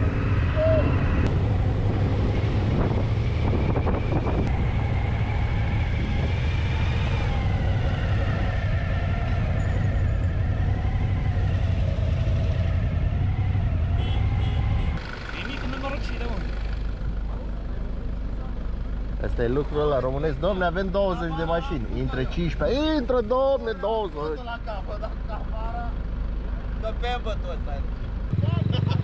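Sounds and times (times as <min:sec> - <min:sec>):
motorcycle engine rumble: 0:00.0 - 0:21.1, 0:24.5 - 0:29.0.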